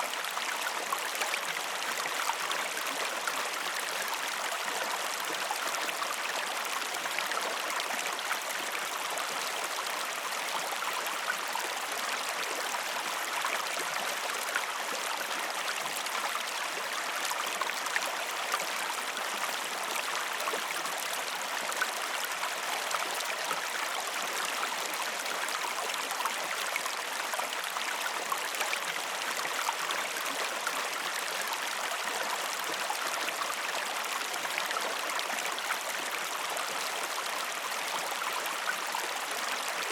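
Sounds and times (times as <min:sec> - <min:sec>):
water splashes and trickles: 0:00.0 - 0:39.9.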